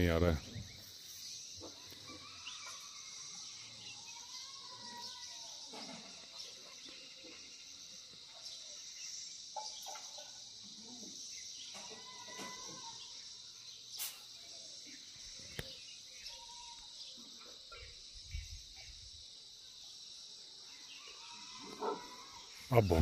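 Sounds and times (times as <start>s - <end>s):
high drone of insects: 0.0s - 23.0s.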